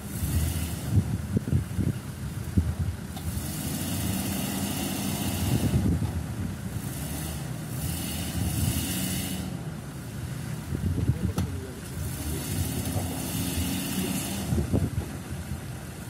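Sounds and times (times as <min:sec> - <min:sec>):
engine running under load: 0:00.0 - 0:16.0.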